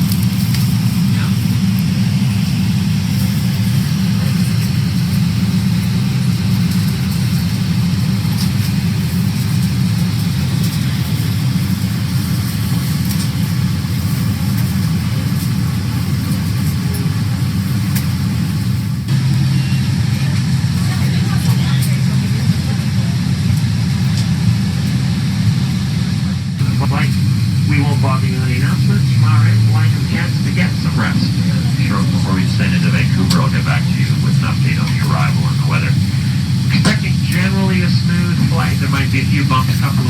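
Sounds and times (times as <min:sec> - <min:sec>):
airplane cabin engine drone: 0:00.0 - 0:40.0.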